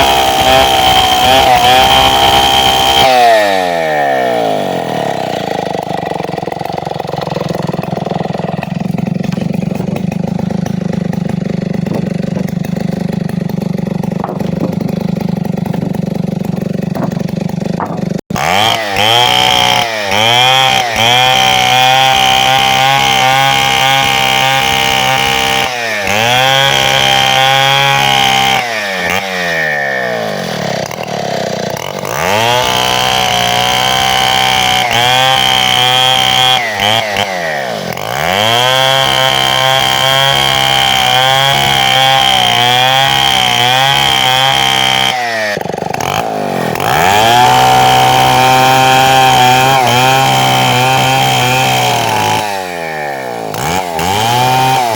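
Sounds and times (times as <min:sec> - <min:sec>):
chainsaw running at high revs: 0:00.0 - 0:54.9.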